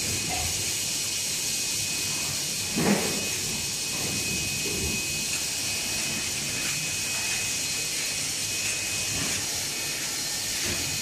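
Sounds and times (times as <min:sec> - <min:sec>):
machinery hissing with high whine: 0:00.0 - 0:11.0.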